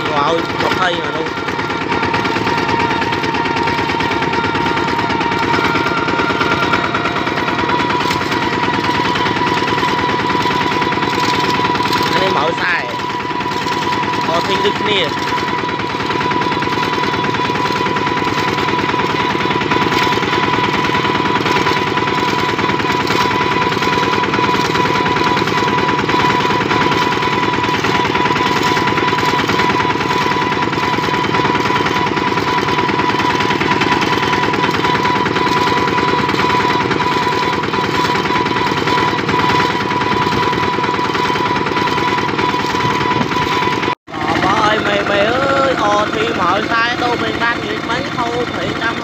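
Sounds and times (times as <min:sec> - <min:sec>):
diesel engine chugging: 0:00.0 - 0:49.0
high engine whine: 0:00.0 - 0:49.0.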